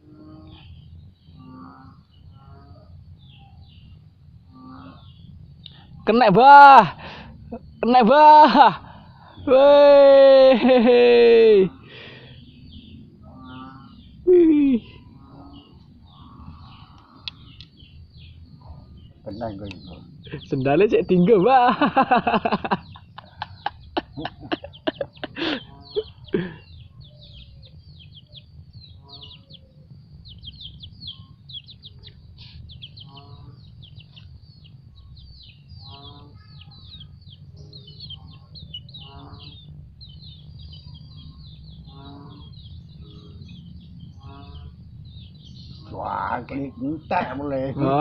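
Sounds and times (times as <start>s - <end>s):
low steady rumble: 0.0s - 8.1s, 8.8s - 48.0s
small birds chirping: 0.0s - 48.0s.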